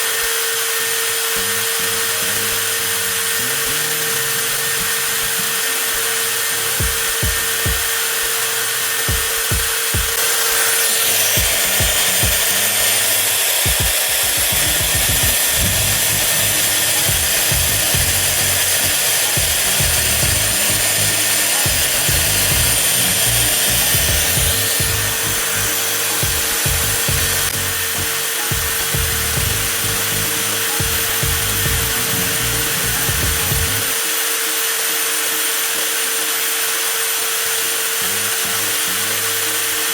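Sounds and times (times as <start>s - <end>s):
angle grinder running: 0.0s - 39.9s.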